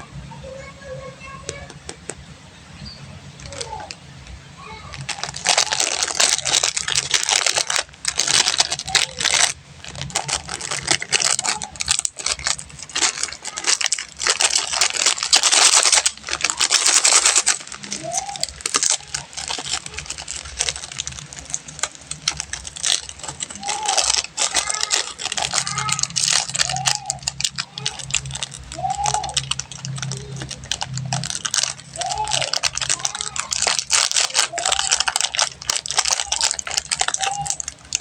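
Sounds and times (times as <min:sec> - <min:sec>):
candy wrappers crinkling: 0:03.2 - 0:38.0.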